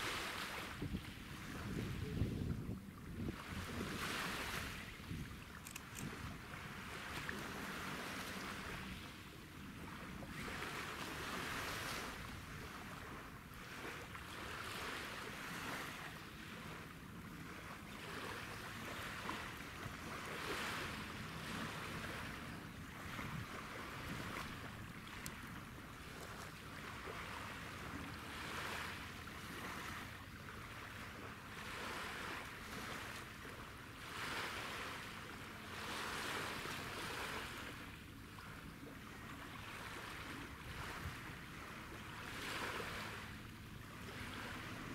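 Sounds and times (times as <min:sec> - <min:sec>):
small waves washing on shore: 0:00.0 - 0:44.9.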